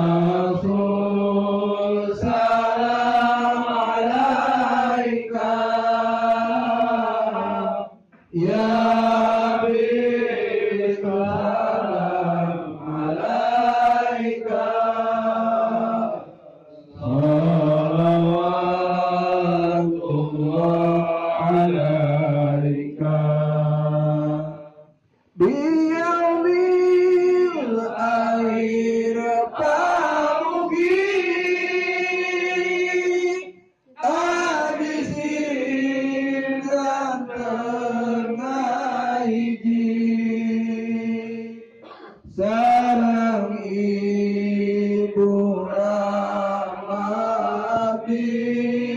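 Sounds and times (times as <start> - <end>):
man chanting: 0.0 - 14.6, 15.5 - 24.7, 25.4 - 48.9.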